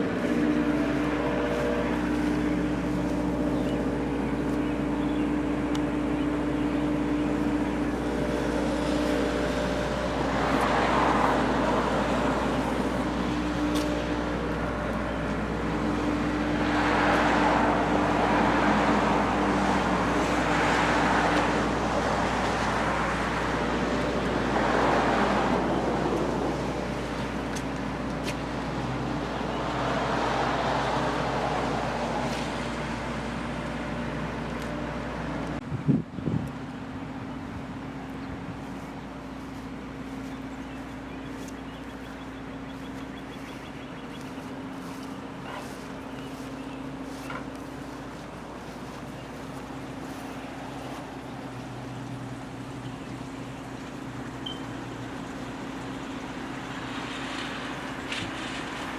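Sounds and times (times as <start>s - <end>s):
steady engine hum: 0.0s - 58.9s
vehicles passing by: 0.0s - 58.9s.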